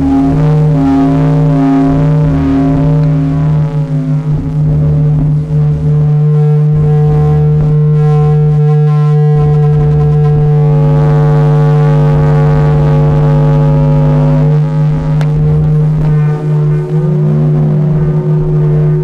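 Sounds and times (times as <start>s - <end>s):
electronic drone music: 0.0s - 19.0s.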